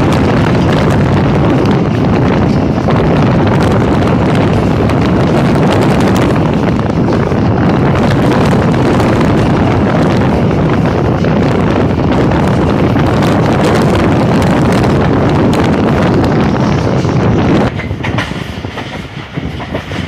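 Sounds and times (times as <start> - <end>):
train wheels rumbling on rails: 0.0 - 20.0
wind buffeting microphone: 0.0 - 20.0.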